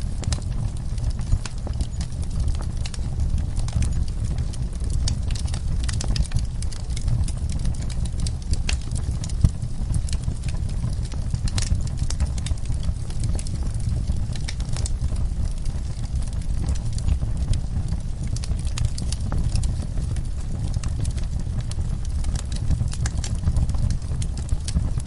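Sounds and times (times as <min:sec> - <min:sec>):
steady low rumble: 0:00.0 - 0:25.0
wood fire crackling and popping: 0:00.0 - 0:25.0.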